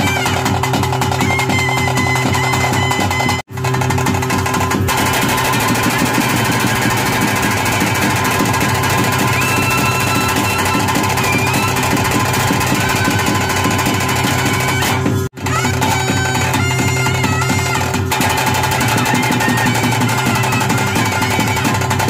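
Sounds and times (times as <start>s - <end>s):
high pipe melody: 0.0s - 3.5s, 4.4s - 22.0s
fast dense drumming: 0.0s - 22.0s
steady drone: 3.6s - 22.0s.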